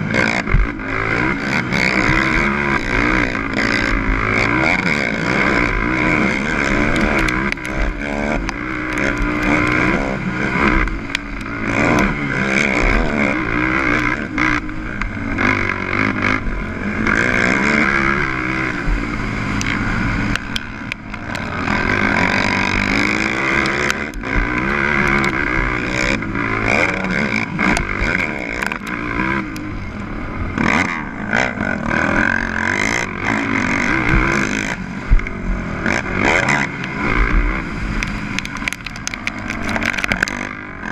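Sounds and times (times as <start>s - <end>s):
quad engine revving: 0.0s - 40.9s
wind rushing over camera: 0.0s - 40.9s.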